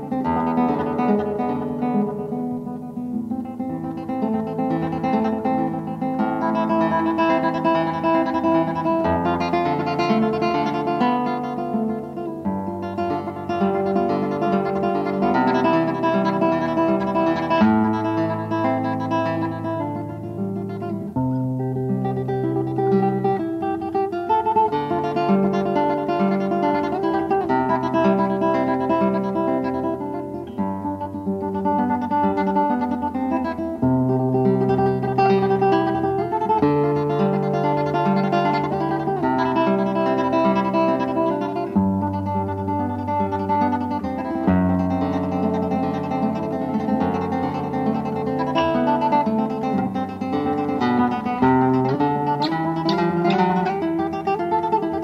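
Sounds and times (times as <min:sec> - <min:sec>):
classical guitar fingerstyle: 0:00.0 - 0:55.0.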